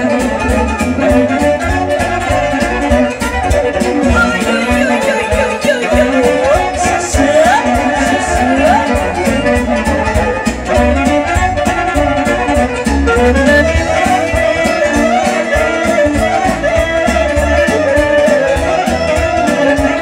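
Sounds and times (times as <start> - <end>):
bass and percussion beat: 0.0 - 20.0
fiddle melody: 0.0 - 20.0.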